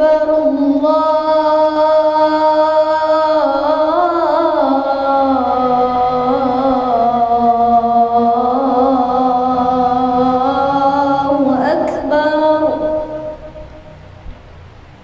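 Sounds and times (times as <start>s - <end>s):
boy chanting call to prayer: 0.0s - 14.0s.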